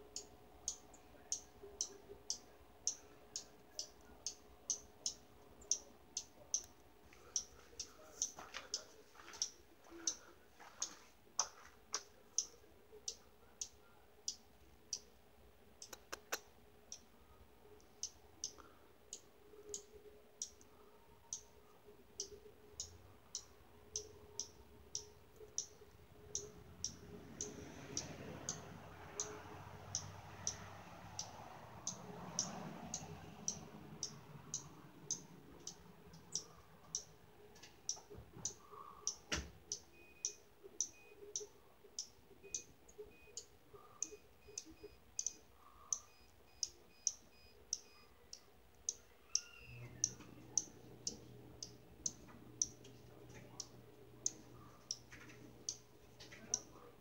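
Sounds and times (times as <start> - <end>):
small bird chirping: 0.1 - 10.2, 17.7 - 56.8.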